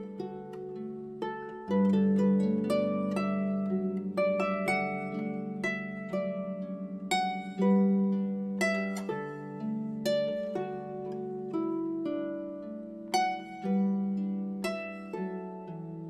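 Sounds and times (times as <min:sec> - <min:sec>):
plucked strings melody: 0:00.0 - 0:16.0.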